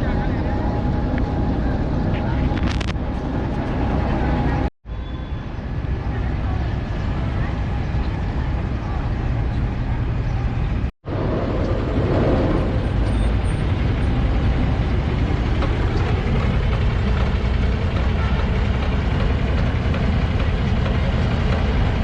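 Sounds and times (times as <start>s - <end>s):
rumble of road vehicles: 0.0s - 22.0s.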